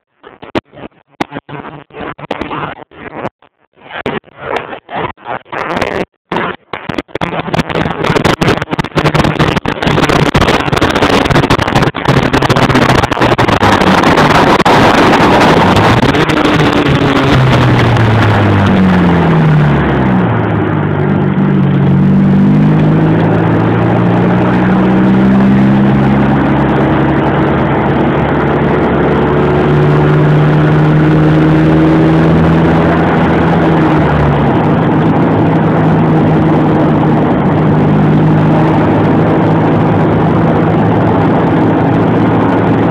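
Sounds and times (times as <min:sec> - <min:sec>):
car engine running: 0:05.7 - 0:42.9
wind buffeting microphone: 0:07.5 - 0:42.9.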